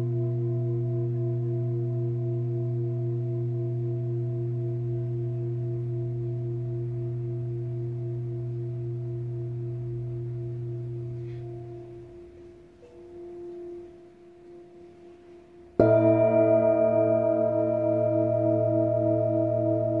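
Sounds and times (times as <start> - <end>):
singing bowl ringing: 0.0 - 20.0.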